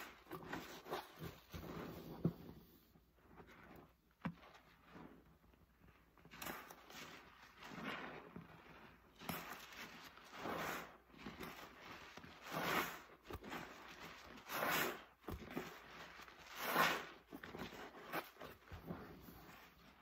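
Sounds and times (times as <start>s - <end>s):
sponges squeezed in water: 0.0s - 2.5s, 3.1s - 20.0s.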